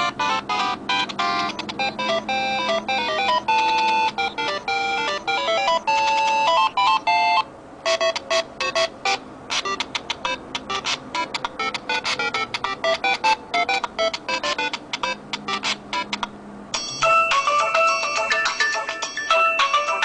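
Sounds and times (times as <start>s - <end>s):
choppy ringtone notes: 0.0s - 20.0s
ringtone melody: 0.0s - 20.0s.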